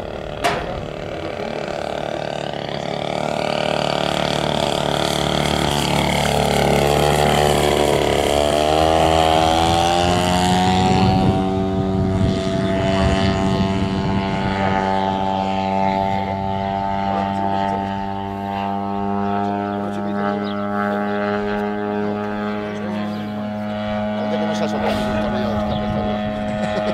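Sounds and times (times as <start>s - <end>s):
model airplane engine running: 0.0s - 26.9s.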